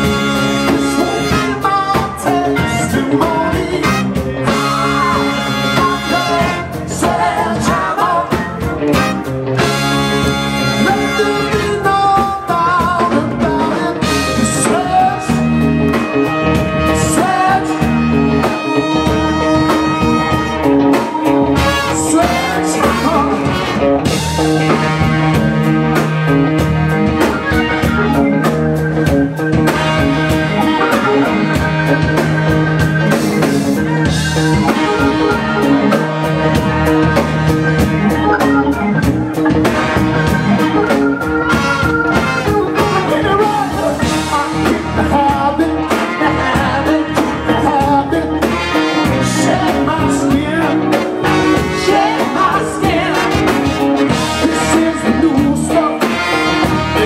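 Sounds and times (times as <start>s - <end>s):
man singing: 0.0s - 25.4s, 29.5s - 37.2s, 37.8s - 57.0s
horn band playing: 0.0s - 57.0s.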